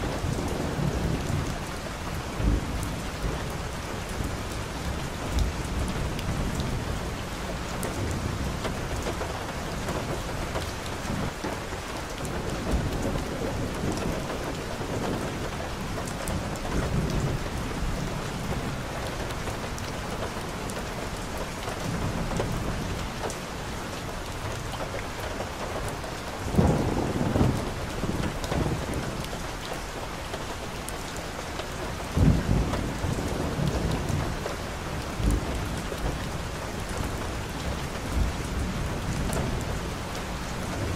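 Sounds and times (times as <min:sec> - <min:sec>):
rain on wet pavement: 0:00.0 - 0:40.9.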